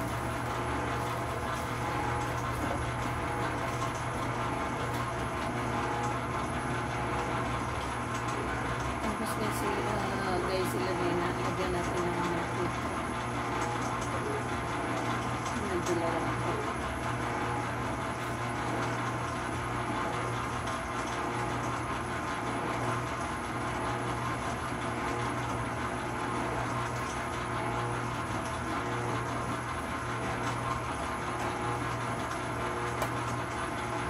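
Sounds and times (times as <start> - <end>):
stand mixer motor humming: 0.0 - 34.0.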